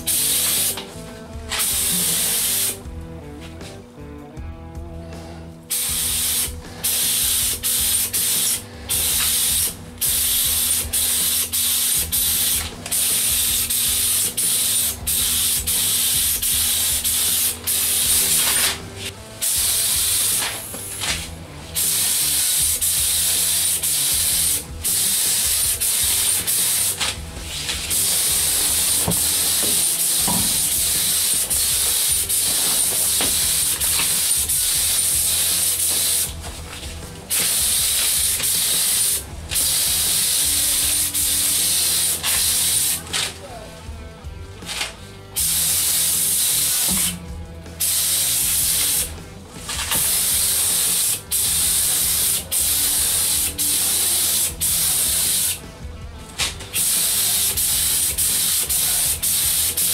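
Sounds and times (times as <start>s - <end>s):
paint spray gun hissing: 0.0s - 2.8s, 5.7s - 43.4s, 45.4s - 55.6s, 56.7s - 59.9s.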